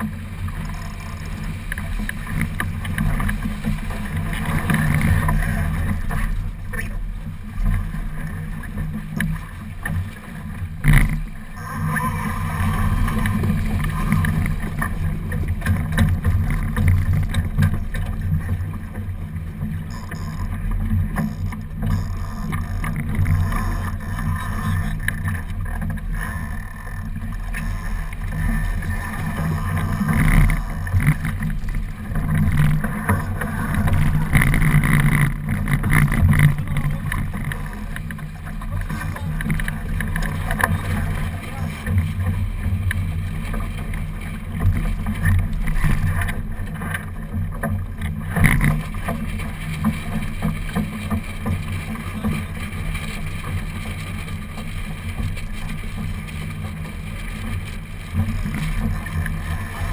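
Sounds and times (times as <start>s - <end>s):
water rushing past hull: 0.0s - 59.9s.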